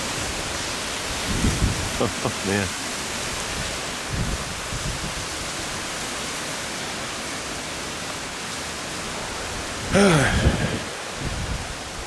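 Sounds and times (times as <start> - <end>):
strong storm wind: 0.0 - 6.5, 8.7 - 12.0
rain: 0.0 - 12.0.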